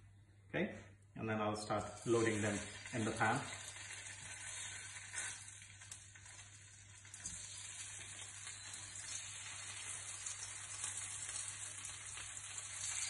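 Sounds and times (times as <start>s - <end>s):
potatoes sizzling in hot oil: 1.6s - 13.0s.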